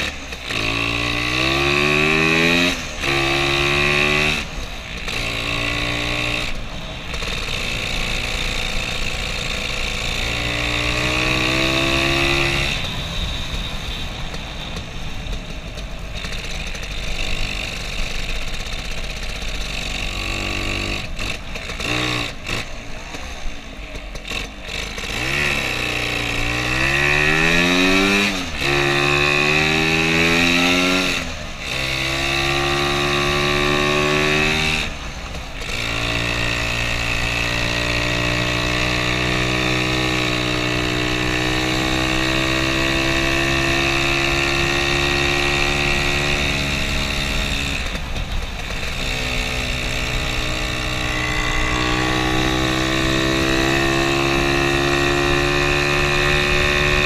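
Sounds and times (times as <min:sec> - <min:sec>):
scooter engine accelerating: 0:00.0 - 0:57.0.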